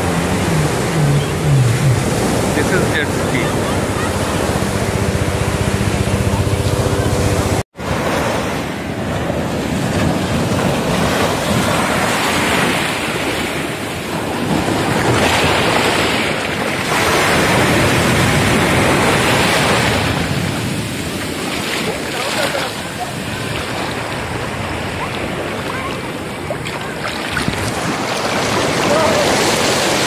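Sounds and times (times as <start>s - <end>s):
ocean surf washing over sand: 0.0s - 30.0s.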